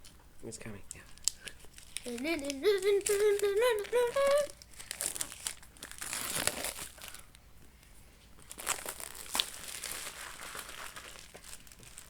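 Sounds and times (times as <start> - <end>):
cellophane crinkling and tearing: 1.0 - 7.4, 8.4 - 12.0.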